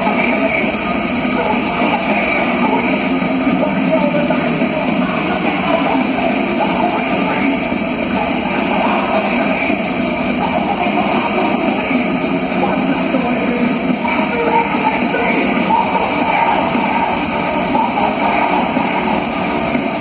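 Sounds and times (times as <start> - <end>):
live thrash metal band: 0.0 - 20.0.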